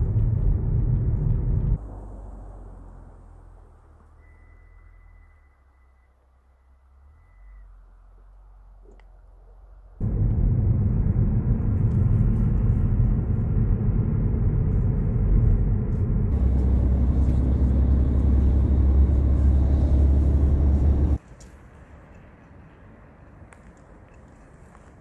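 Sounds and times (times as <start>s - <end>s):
vehicle engine rumble from inside: 0.0s - 9.0s, 9.6s - 21.2s.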